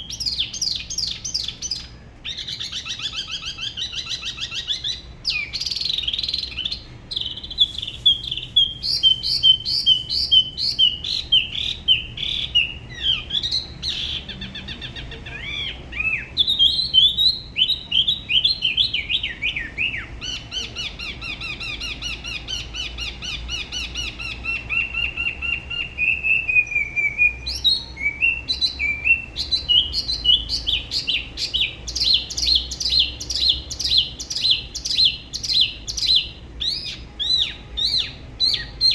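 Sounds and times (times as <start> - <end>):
bird singing rapid high notes: 0.0 - 38.9.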